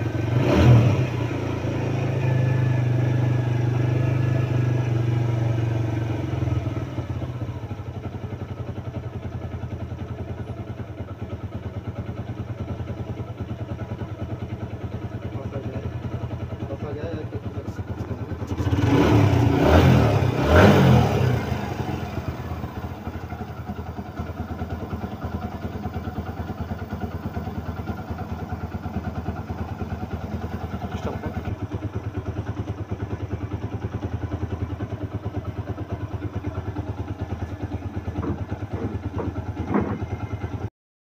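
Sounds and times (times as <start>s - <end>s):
motorcycle engine blipping and idling: 0.0s - 40.7s.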